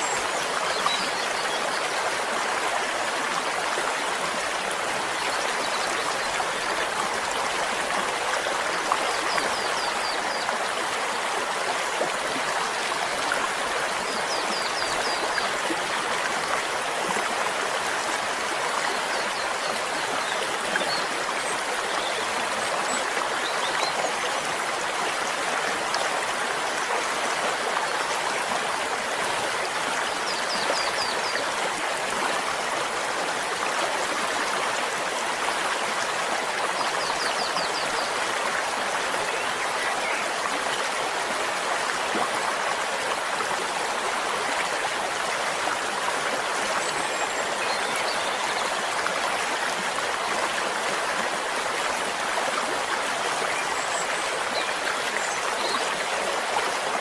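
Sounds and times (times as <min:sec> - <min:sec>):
stream running water: 0:00.0 - 0:57.0.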